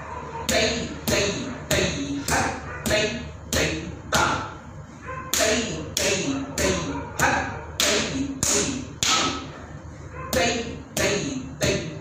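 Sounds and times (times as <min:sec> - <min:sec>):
spoken rhythm syllables: 0:00.4 - 0:09.5, 0:10.3 - 0:12.0.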